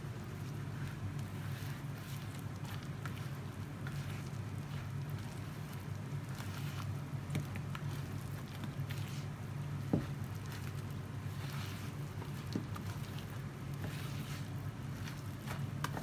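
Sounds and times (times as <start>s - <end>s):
dough squishing and patting: 0.0s - 16.0s
steady low hum: 0.0s - 16.0s.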